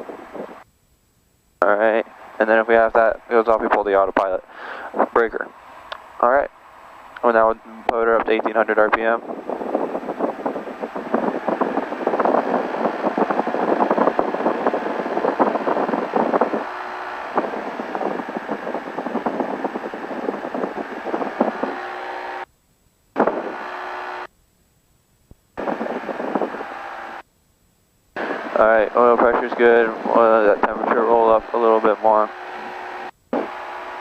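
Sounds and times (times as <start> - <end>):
aircraft engine running steadily: 0.0 - 0.6, 1.6 - 22.4, 25.6 - 27.2, 28.2 - 34.0.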